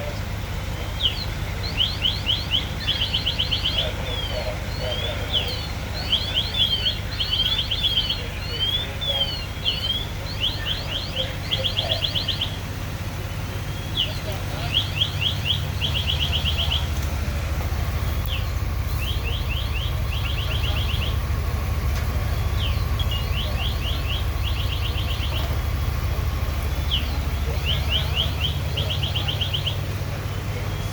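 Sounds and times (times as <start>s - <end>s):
fire engines rumbling: 0.0s - 30.9s
bird chirping and trilling: 0.8s - 12.7s, 13.7s - 17.0s, 18.2s - 30.0s.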